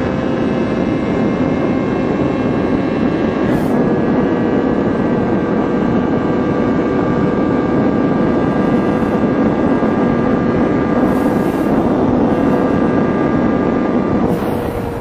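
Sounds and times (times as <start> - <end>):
motorcycle engine whining: 0.0 - 15.0
wind and road noise: 0.0 - 15.0.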